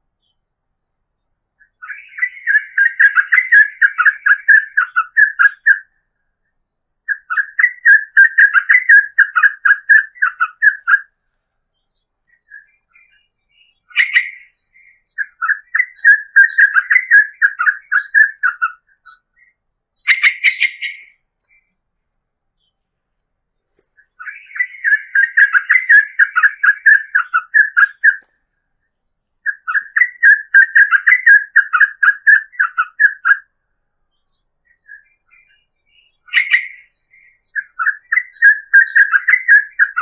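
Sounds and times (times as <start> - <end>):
bird singing rapid repeated notes: 0.0 - 40.0
short sharp bird calls: 1.6 - 6.5, 12.0 - 21.8, 22.6 - 40.0.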